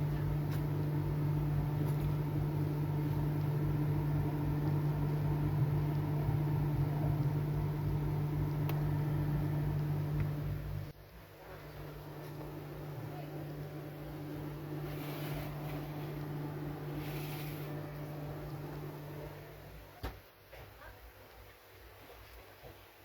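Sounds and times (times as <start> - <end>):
electric motor humming: 0.0 - 10.9, 11.7 - 19.7
low mains drone: 0.0 - 10.9, 11.7 - 19.8.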